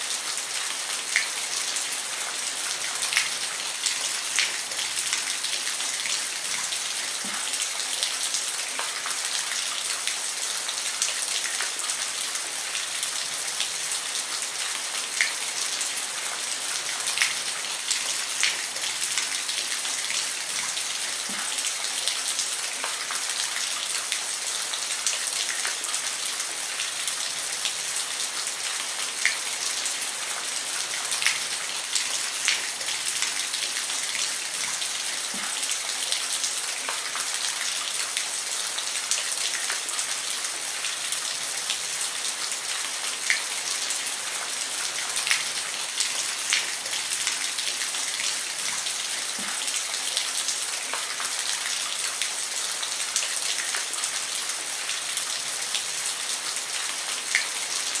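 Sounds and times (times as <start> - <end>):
rain falling on a roof: 0.0 - 58.0.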